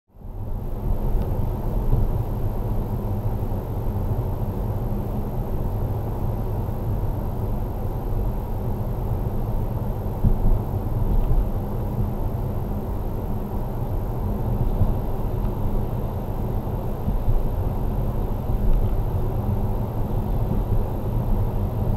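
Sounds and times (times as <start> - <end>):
car engine and tyre rumble: 0.2 - 21.9.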